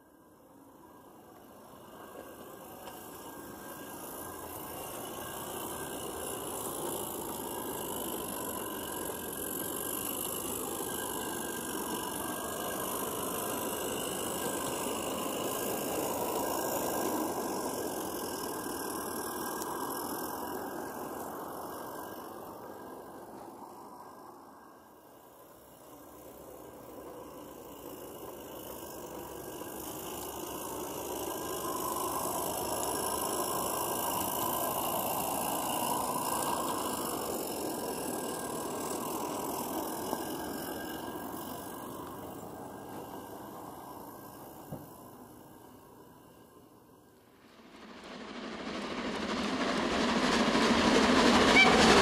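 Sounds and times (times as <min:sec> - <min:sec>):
steam locomotive passing: 0:00.0 - 0:52.0.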